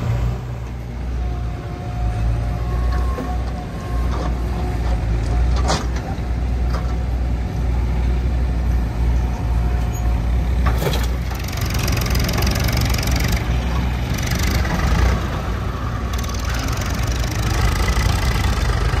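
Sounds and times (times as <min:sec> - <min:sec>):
diesel engines rumbling: 0:00.0 - 0:19.0.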